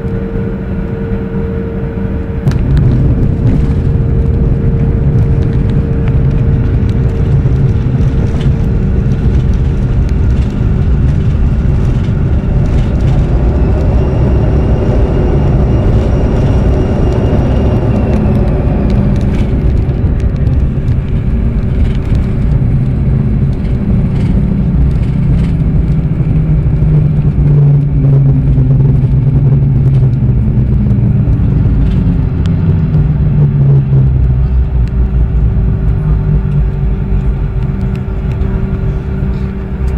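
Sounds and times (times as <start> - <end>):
high engine whine: 0.0 - 39.9
jet cabin engine rumble: 0.0 - 39.9.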